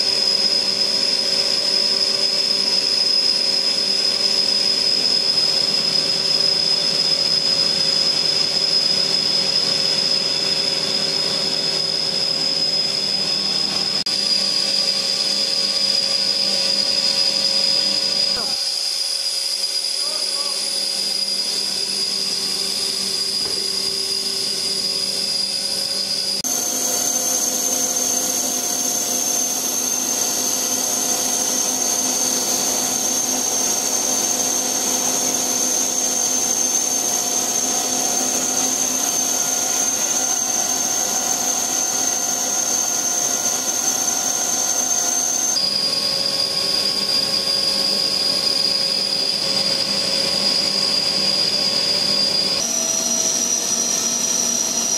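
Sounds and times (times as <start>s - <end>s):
factory machinery drone: 0.0s - 54.9s
high whining tones: 0.0s - 54.9s.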